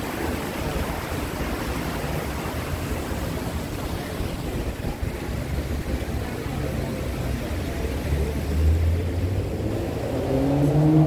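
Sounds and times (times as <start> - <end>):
water splashing down rock fountain: 0.0 - 11.0.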